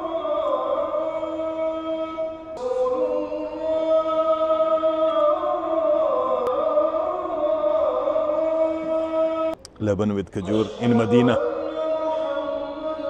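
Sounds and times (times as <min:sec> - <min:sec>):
person singing long held notes: 0:00.0 - 0:09.6, 0:10.4 - 0:13.0.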